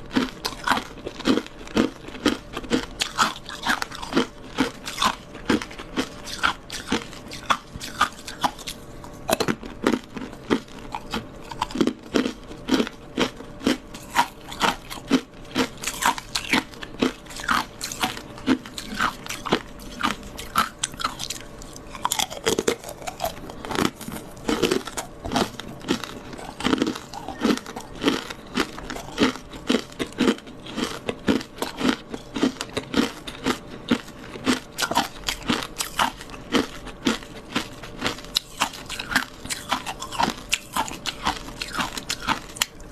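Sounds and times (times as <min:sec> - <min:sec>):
ice being bitten and chewed: 0:00.0 - 0:42.9.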